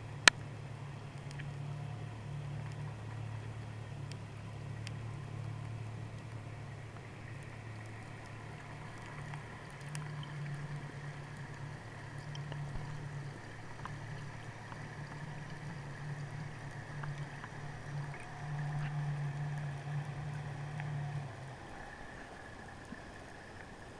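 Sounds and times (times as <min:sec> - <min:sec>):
underwater boat motor drone: 0:00.0 - 0:23.9
faint clicks: 0:00.1 - 0:23.9.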